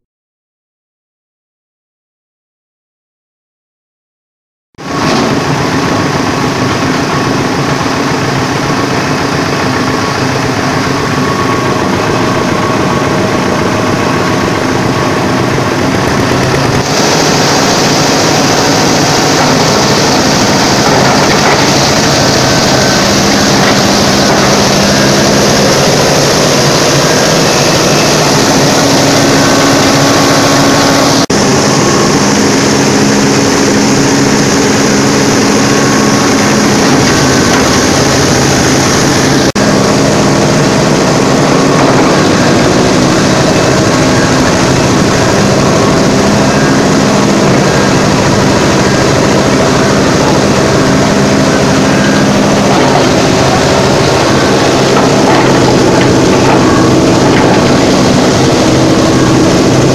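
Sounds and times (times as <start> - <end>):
chopper machine grinding corn: 4.8 - 59.9.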